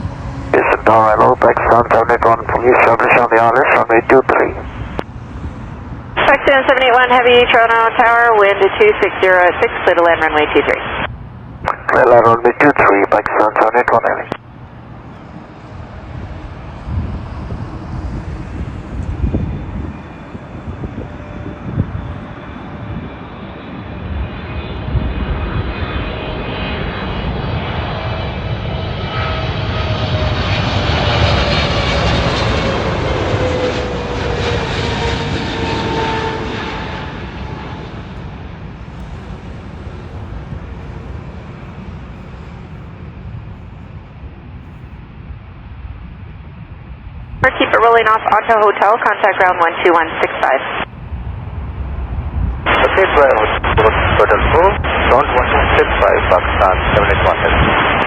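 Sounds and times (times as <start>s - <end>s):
jet engines passing overhead: 0.0s - 58.0s
low gusty rumbling: 0.0s - 58.0s.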